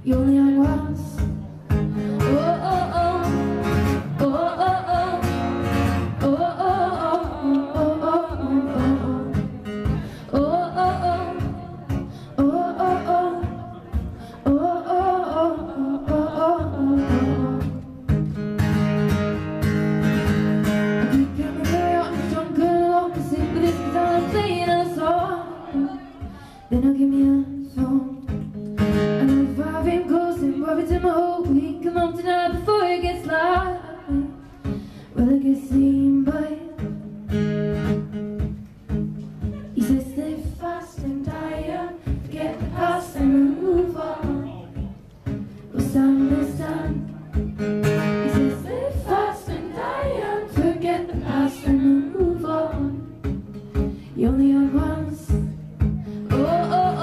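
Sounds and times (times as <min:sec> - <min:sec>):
woman singing: 0:00.0 - 0:18.2, 0:21.0 - 0:37.1, 0:39.6 - 0:44.6, 0:45.7 - 0:47.4, 0:48.1 - 0:53.4, 0:54.1 - 0:55.6, 0:56.2 - 0:57.0
acoustic guitar strumming: 0:00.0 - 0:57.0.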